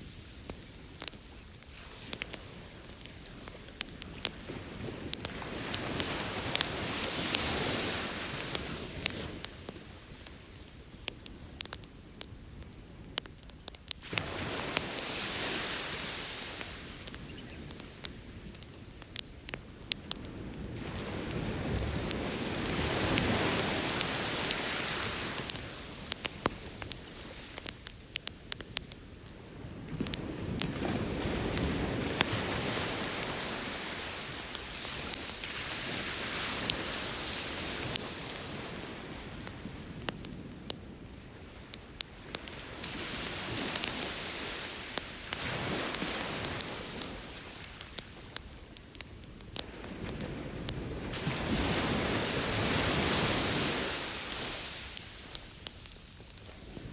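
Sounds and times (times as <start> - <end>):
campfire crackling and popping: 0.0 - 56.9
ocean waves washing on beach: 0.0 - 56.9.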